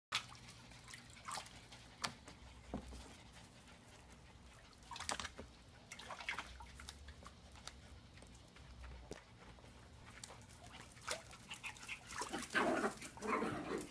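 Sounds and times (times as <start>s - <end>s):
faint water splashing in a tub: 0.1s - 13.9s.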